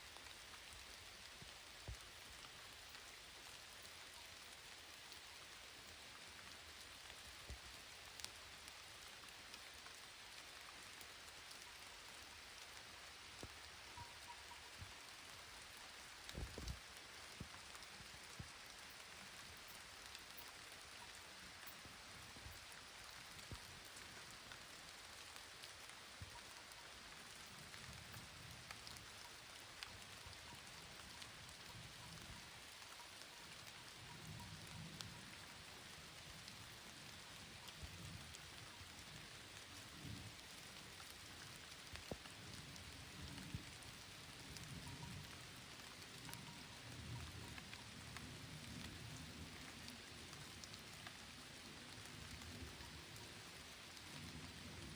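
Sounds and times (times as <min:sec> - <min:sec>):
light rain patter: 0:00.0 - 0:54.9.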